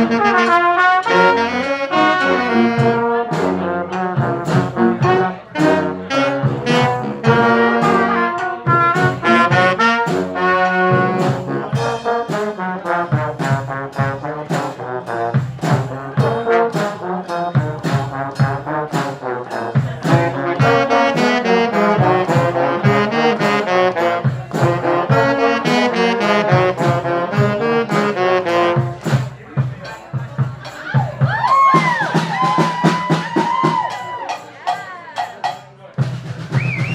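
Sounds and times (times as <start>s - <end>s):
trombone: 0.0s - 30.8s
brass band playing: 0.0s - 35.6s
steady percussive beat: 0.0s - 36.9s.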